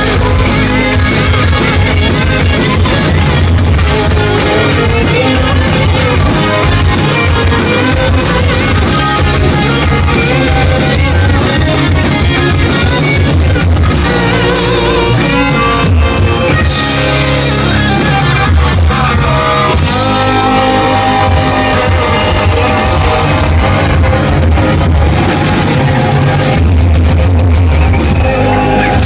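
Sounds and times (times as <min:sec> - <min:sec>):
electric guitar solo: 0:00.0 - 0:29.0
rock band playing: 0:00.0 - 0:29.0.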